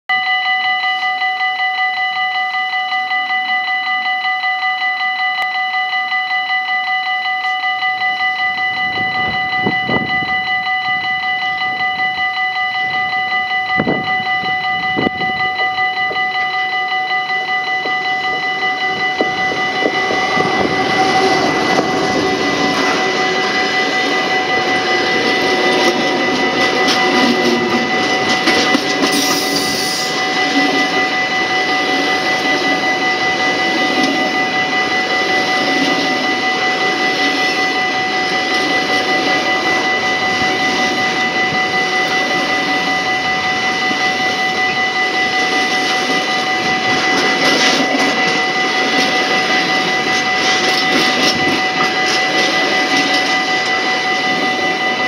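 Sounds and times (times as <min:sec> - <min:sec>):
level-crossing warning bell: 0:00.1 - 0:55.0
rail and wheel clatter: 0:08.3 - 0:55.0
freight train rumble: 0:08.4 - 0:55.0.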